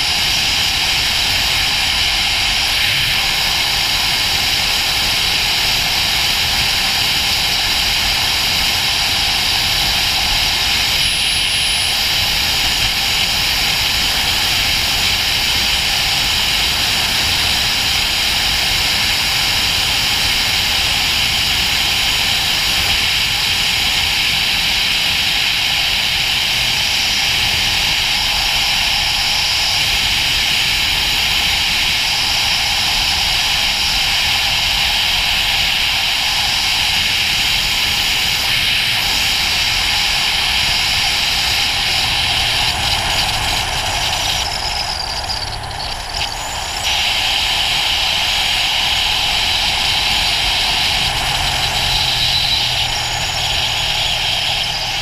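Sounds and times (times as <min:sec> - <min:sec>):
motorcycle engine running low: 0:00.0 - 0:55.0.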